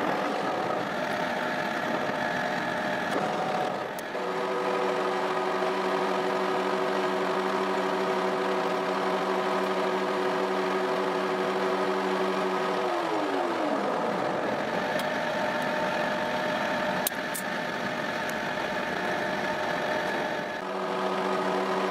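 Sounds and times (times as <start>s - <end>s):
metal lathe whine: 0.0s - 21.9s.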